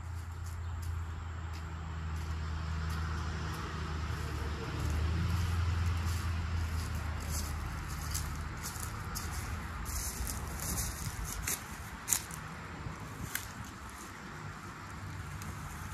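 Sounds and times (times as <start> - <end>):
vehicle engine running: 0.0 - 15.9.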